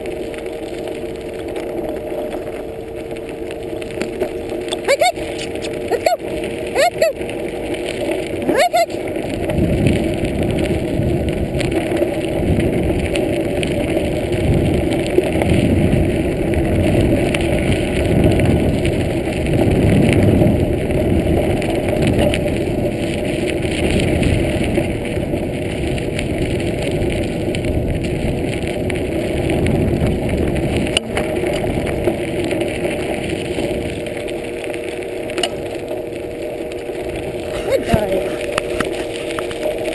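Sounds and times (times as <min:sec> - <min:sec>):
bicycle rolling over dirt trail: 0:00.0 - 0:39.9.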